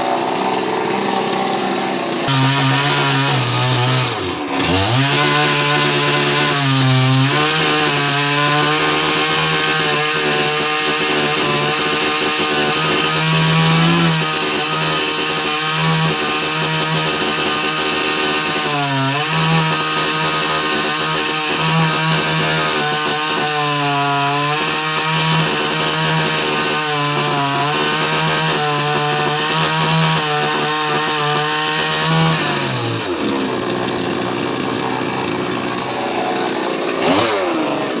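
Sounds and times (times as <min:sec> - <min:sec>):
chainsaw engine running: 0:00.0 - 0:38.0.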